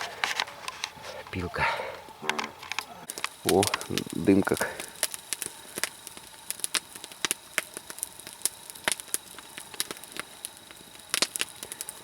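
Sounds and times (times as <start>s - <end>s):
log fire crackling: 0.0s - 12.0s.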